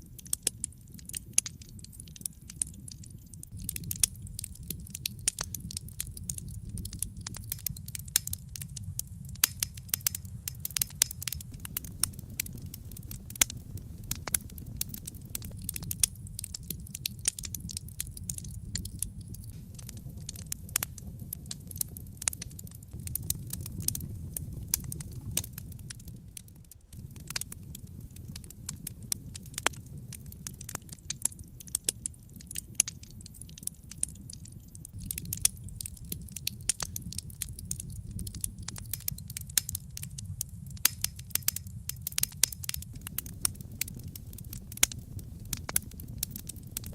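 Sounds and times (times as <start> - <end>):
fire crackling and popping: 0.0 - 46.9
low rumble of flame: 0.0 - 46.9.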